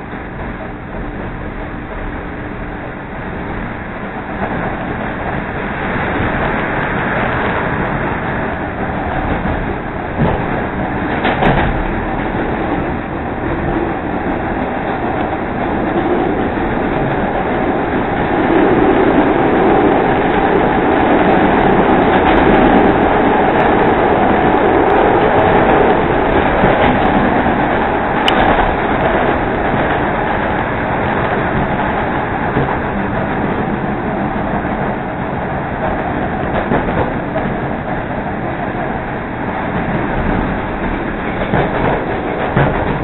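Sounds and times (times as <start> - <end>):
train running on rails: 0.0 - 43.0.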